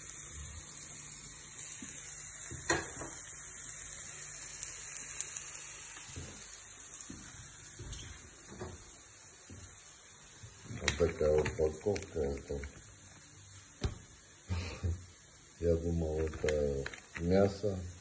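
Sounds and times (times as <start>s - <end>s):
food sizzling on a stove: 0.0s - 18.0s.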